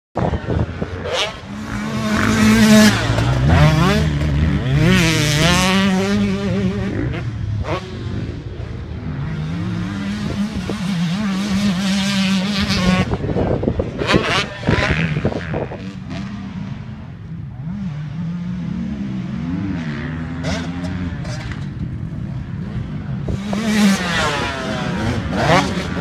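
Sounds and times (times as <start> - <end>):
motocross bike revving: 0.2 - 26.0.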